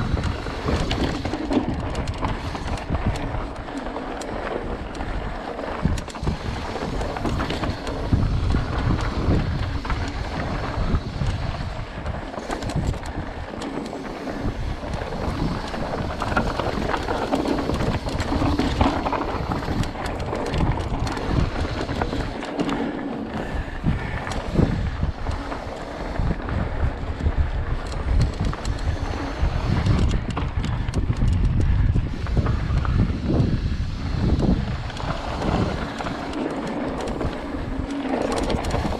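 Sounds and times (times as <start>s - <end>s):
bike clattering over bumps: 0.0s - 38.9s
wind buffeting microphone: 0.0s - 38.9s.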